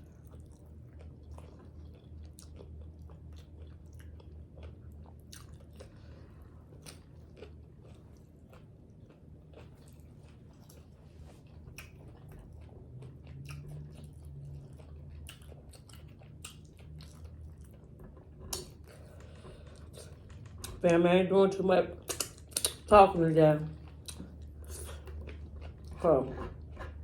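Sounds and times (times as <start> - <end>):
crisp chewing crunches: 0.0 - 20.8, 23.8 - 27.0.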